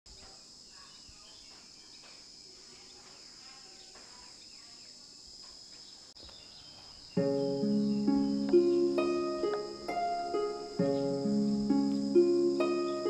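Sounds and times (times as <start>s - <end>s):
high-pitched insect chorus: 0.1s - 13.0s.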